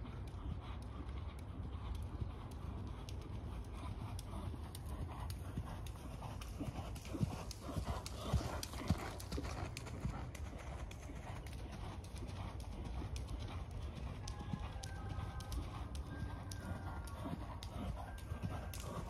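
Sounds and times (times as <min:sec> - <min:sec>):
pony hoofbeats on soft ground: 0:00.0 - 0:19.0.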